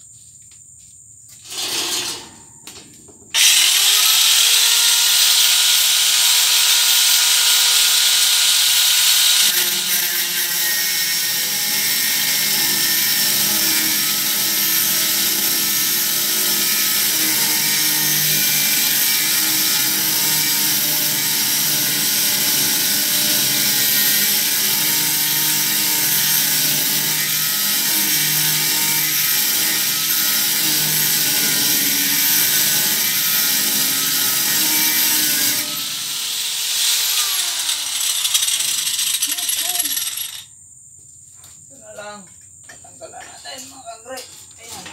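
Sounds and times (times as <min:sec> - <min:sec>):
grinder grinding metal: 0:01.4 - 0:02.4, 0:03.4 - 0:40.5
angle grinder whine: 0:03.4 - 0:40.5.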